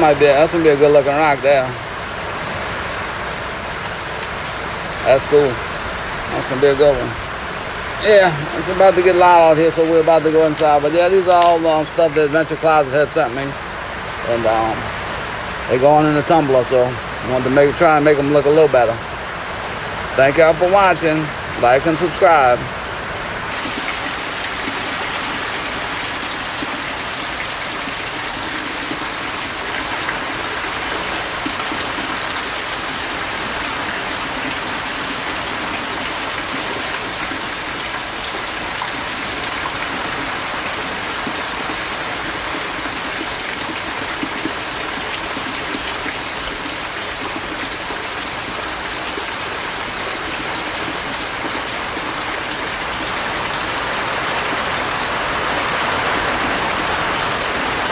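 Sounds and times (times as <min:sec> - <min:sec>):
heavy rain on a tin roof: 0:00.0 - 0:57.9.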